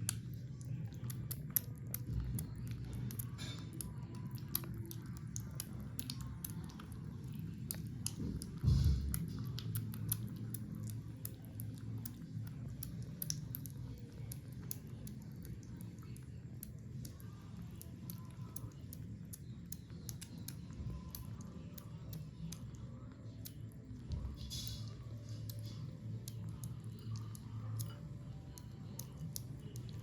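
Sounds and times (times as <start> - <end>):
kittens chewing and lapping: 0.0 - 30.0.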